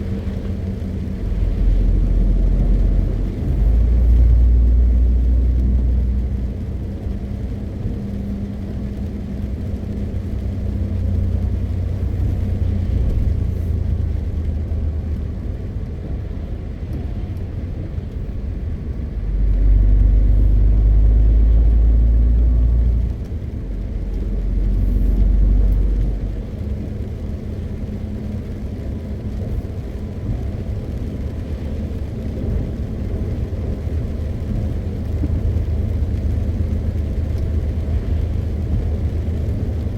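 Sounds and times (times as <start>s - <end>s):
diesel truck engine running: 0.0s - 39.9s
road noise: 0.0s - 39.9s.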